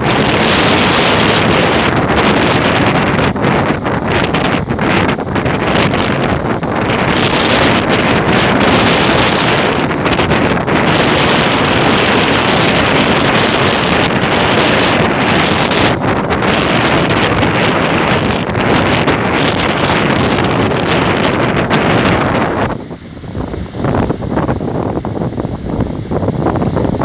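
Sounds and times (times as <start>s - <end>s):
ocean waves: 0.0s - 27.0s
wind buffeting microphone: 0.0s - 27.0s.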